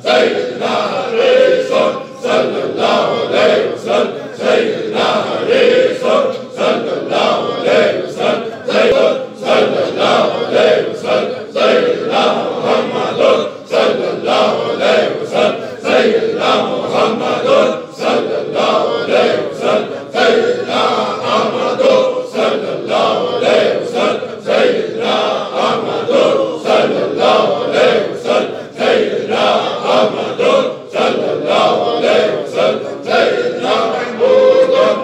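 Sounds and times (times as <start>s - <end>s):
men chanting in unison: 0.0s - 35.0s.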